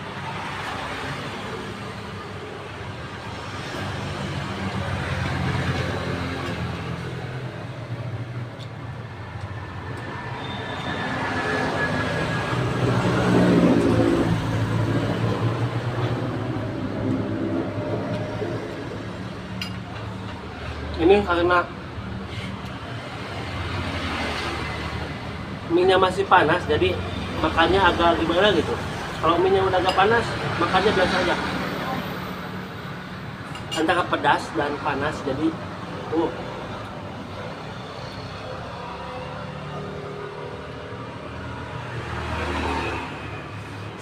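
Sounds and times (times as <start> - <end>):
road traffic passing: 0.0 - 44.0.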